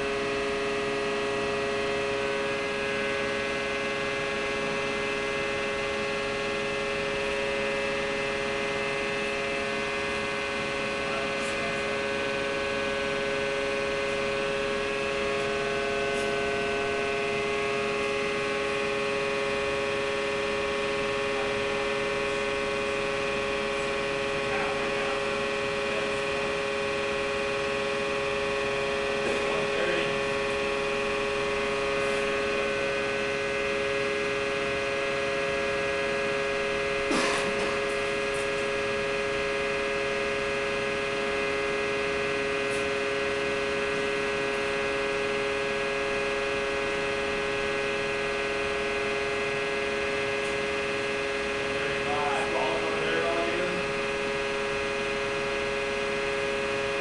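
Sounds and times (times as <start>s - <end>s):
testing machine hum: 0.0s - 57.0s.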